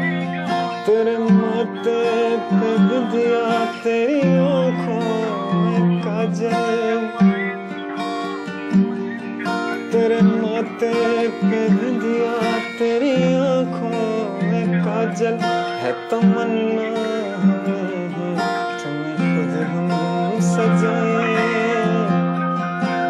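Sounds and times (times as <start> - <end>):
acoustic guitar strumming: 0.0 - 23.0
man singing: 0.0 - 23.0.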